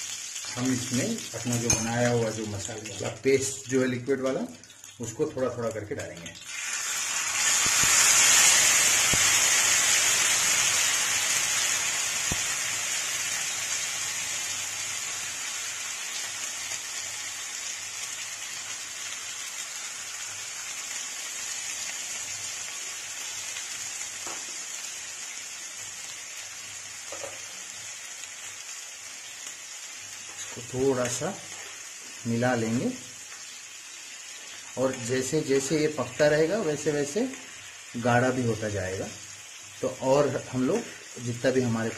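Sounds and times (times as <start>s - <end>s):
paste sizzling in hot oil: 0.0s - 41.9s.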